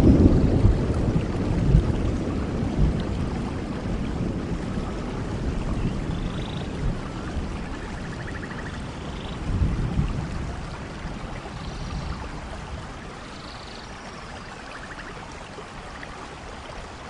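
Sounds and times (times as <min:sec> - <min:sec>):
road and wind noise rumble: 0:00.0 - 0:17.0.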